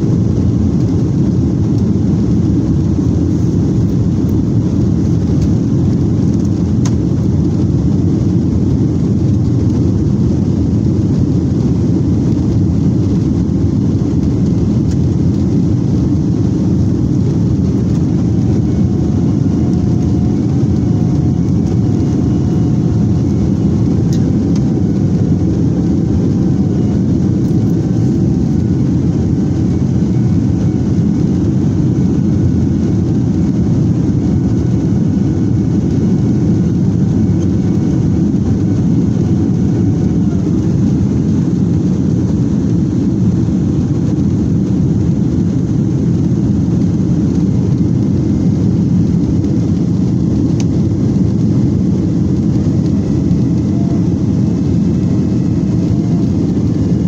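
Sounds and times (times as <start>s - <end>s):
faint wavering engine hum: 0.0s - 57.0s
jet engine and airflow rush: 0.0s - 57.0s.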